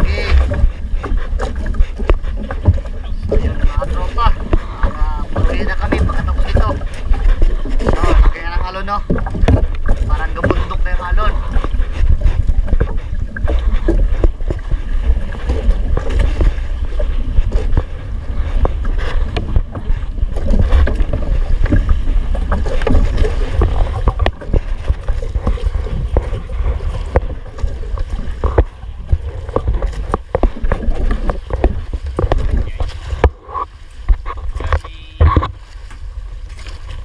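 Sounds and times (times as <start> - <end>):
waves slapping against boat hull: 0.0 - 37.0
wind buffeting microphone: 0.0 - 37.0.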